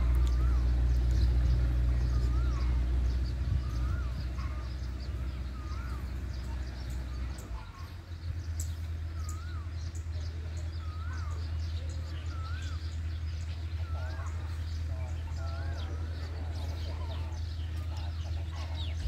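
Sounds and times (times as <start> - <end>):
bird whistling call: 0.0 - 7.9, 8.5 - 19.0
low rumble: 0.0 - 19.0.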